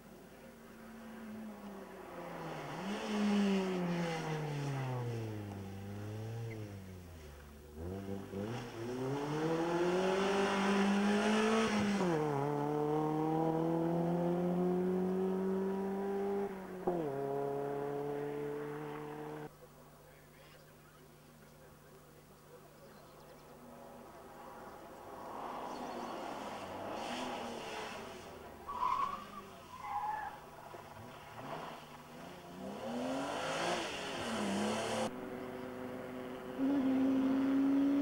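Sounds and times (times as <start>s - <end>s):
rally car engine revving past: 2.0s - 19.5s, 23.8s - 38.0s.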